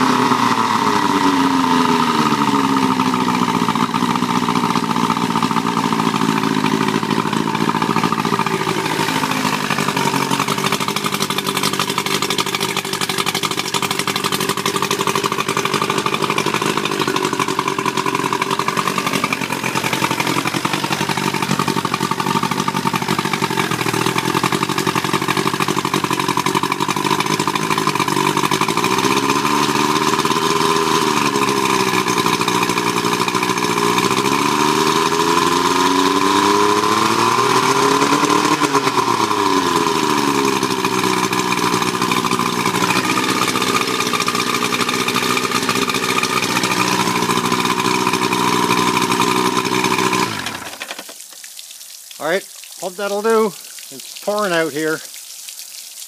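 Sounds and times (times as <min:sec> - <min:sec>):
outboard motor idling and revving: 0:00.0 - 0:51.2, 0:52.3 - 0:53.5, 0:54.2 - 0:55.0.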